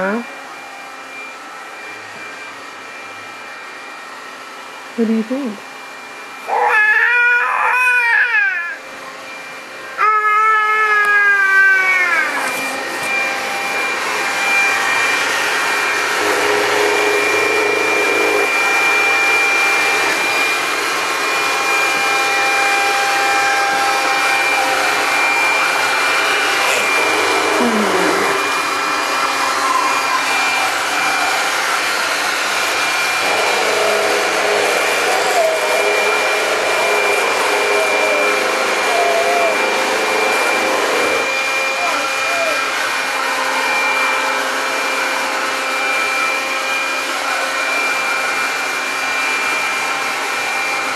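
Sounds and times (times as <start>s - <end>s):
thin high whine: 0.0s - 50.9s
robotic mopper whirring: 6.4s - 50.6s.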